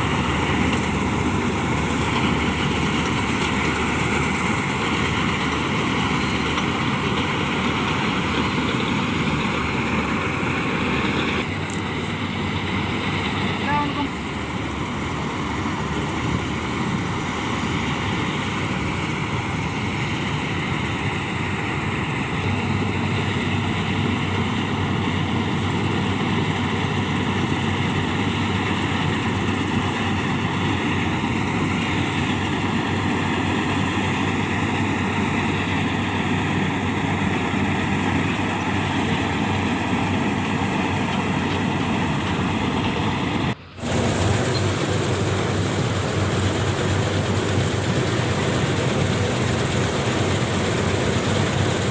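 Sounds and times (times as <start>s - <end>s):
farm machinery engine running: 0.0s - 51.9s.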